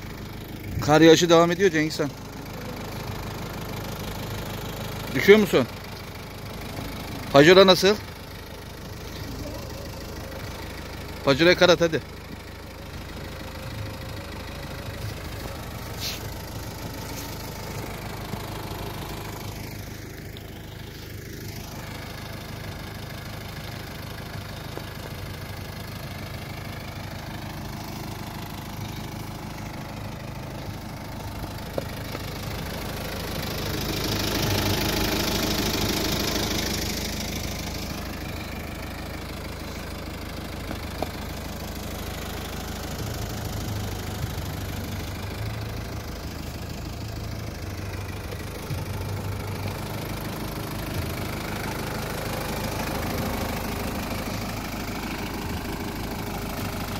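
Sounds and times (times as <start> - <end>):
car engine idling: 0.0 - 56.9.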